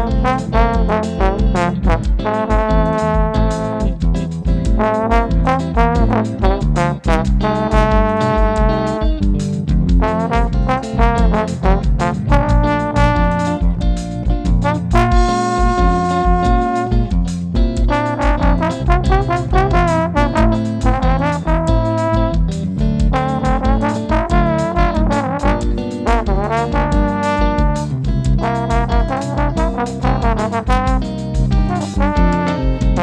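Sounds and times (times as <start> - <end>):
pulsing bass line: 0.0 - 33.0
trombone melody: 0.0 - 33.0.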